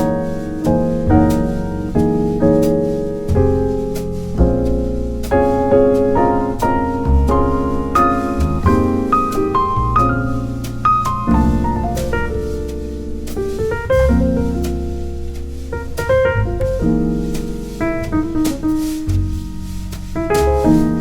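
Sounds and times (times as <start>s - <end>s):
piano chords over bass line: 0.0s - 21.0s.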